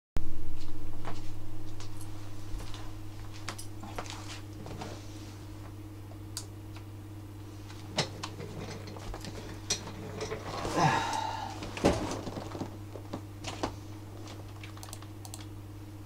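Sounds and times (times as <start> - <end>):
low electrical hum: 0.2 - 16.0.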